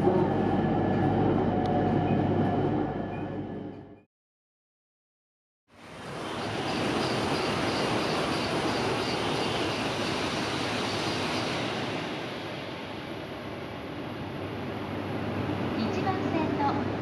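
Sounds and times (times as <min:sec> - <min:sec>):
high-speed train rushing past: 0:00.0 - 0:03.7, 0:05.7 - 0:17.0.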